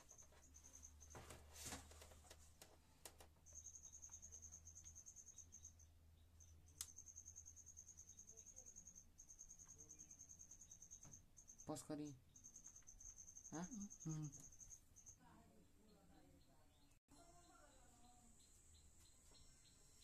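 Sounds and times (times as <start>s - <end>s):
cricket chirping: 0.0s - 1.4s, 3.4s - 20.0s.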